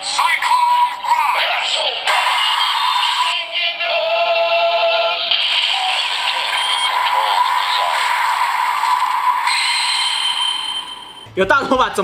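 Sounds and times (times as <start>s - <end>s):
electronic music: 0.0s - 11.3s
recorded voice call: 0.0s - 12.0s.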